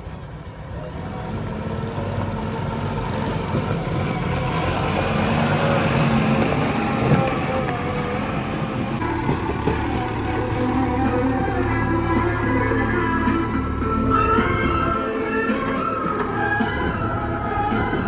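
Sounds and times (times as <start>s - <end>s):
heavy diesel engine running: 0.4s - 18.0s.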